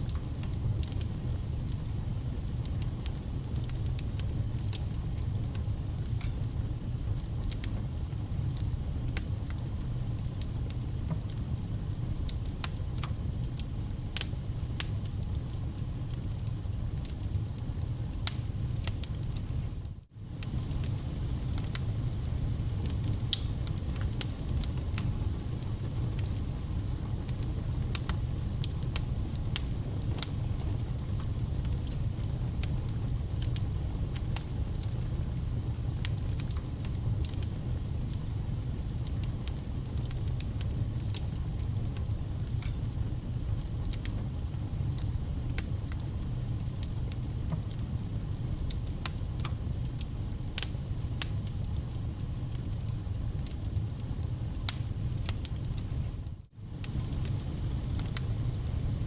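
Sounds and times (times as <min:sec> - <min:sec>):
low rumble of flames: 0:00.0 - 0:59.0
wood fire crackling: 0:00.0 - 0:59.0.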